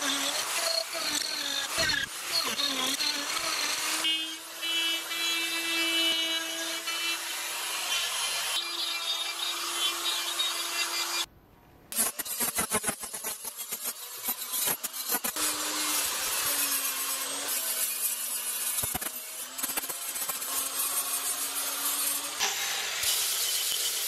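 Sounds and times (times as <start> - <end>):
rotary grinder cutting wood: 0.0 - 11.3, 11.9 - 24.0.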